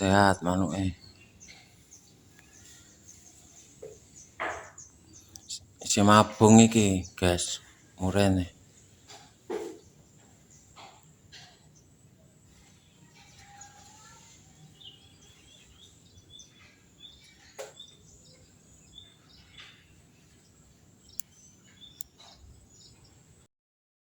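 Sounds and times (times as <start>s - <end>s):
songbird chirping: 0.0s - 23.5s.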